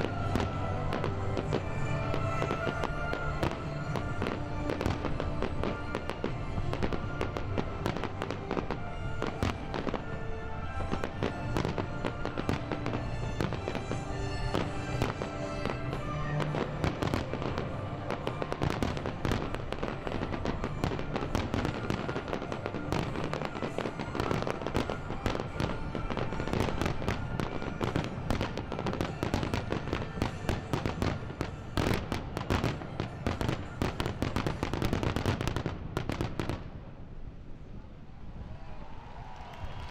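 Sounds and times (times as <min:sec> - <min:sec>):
firework shells bursting and crackling: 0:00.0 - 0:36.5
music playing: 0:00.0 - 0:36.6.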